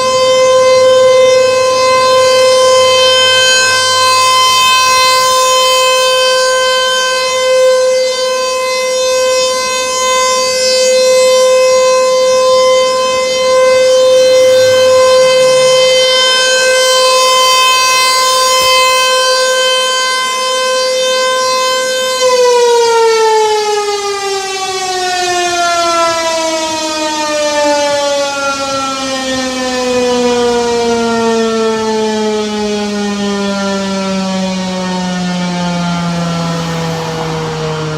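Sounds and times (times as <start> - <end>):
siren steady tone: 0.0 - 37.9
warning siren winding down: 0.0 - 37.9.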